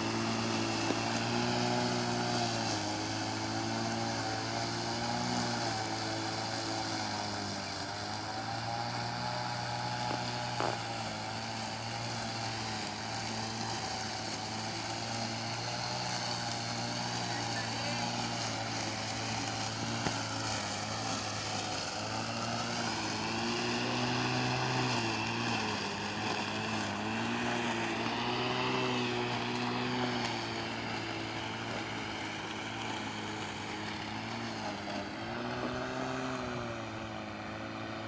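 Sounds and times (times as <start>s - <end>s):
lawn mower motor humming: 0.0s - 38.0s.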